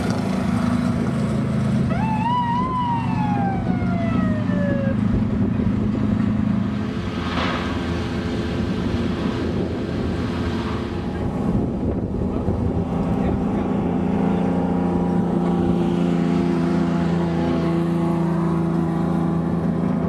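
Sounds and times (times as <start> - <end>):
low rumble of engines: 0.0 - 20.0
truck engine pulling away: 0.0 - 20.0.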